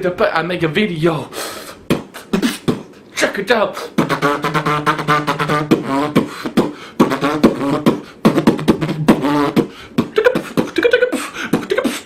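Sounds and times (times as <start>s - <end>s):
boy making beatbox mouth sounds: 1.5s - 3.1s, 3.8s - 12.0s.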